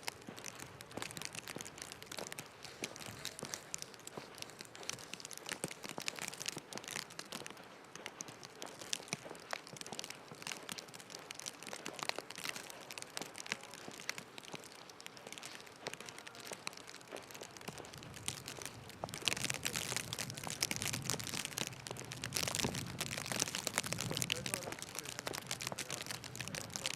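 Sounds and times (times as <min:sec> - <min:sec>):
dense irregular crackling: 0:00.0 - 0:26.9.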